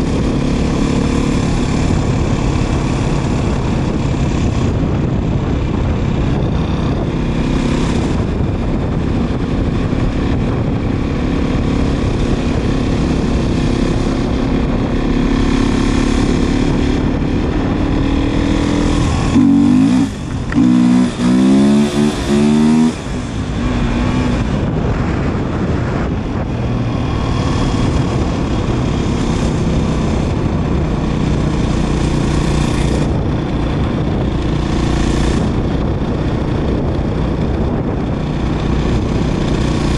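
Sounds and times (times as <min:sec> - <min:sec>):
dirt bike engine: 0:00.0 - 0:39.9
wind on microphone: 0:00.0 - 0:39.9.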